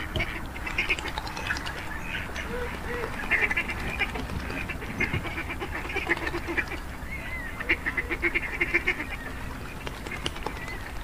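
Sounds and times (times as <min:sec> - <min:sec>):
ducks quacking: 0:00.0 - 0:10.7.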